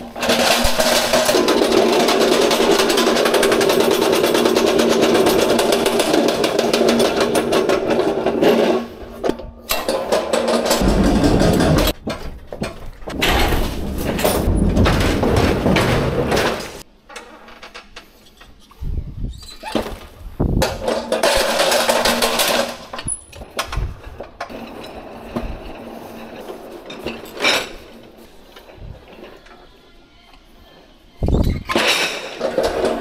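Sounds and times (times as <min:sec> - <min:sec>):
pallet jack wheels rumbling: 0:00.0 - 0:16.9, 0:19.5 - 0:29.8, 0:31.2 - 0:33.0
load rattling: 0:00.0 - 0:17.8, 0:19.6 - 0:29.4
knocks and clanks: 0:00.0 - 0:18.1, 0:19.7 - 0:29.6.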